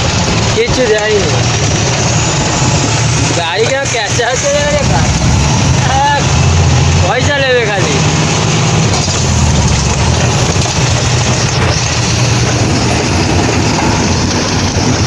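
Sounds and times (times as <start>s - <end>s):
rushing noise: 0.0s - 15.0s
truck engine running: 0.0s - 15.0s.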